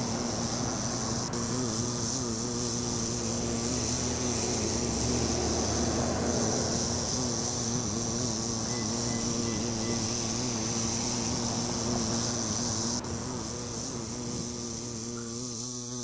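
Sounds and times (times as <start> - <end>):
bumblebee buzzing: 0.0 - 16.0
steady high hiss: 0.0 - 16.0.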